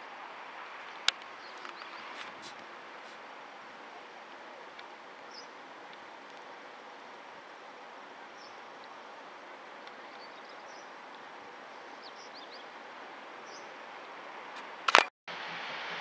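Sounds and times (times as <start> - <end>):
outdoor background noise: 0.0 - 16.0
steady hiss: 0.0 - 16.0.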